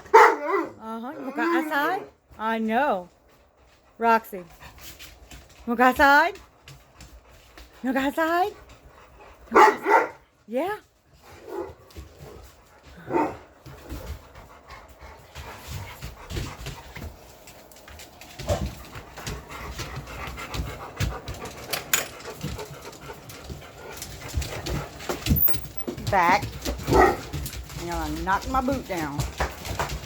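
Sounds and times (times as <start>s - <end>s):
knocks of dogs moving: 0.0s - 30.0s
dogs panting: 1.2s - 30.0s.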